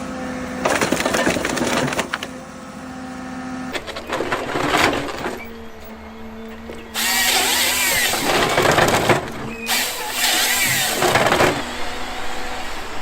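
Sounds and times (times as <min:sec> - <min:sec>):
engine hum: 0:00.0 - 0:13.0
harvester head grinding and whining: 0:00.0 - 0:13.0.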